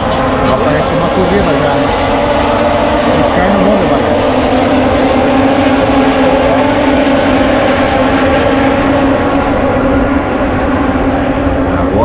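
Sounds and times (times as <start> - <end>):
racing motorcycles at high revs: 0.0 - 12.0.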